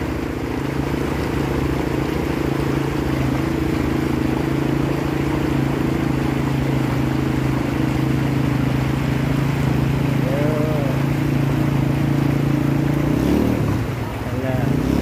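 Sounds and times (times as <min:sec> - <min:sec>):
fast-flowing stream rushing: 0:00.0 - 0:15.0
quad bike engine running: 0:00.0 - 0:15.0.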